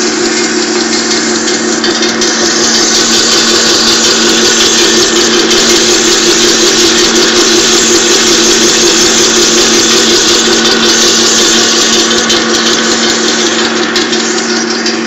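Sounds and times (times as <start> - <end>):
low hum: 0.0 - 15.0
packing machine whirring: 0.0 - 15.0.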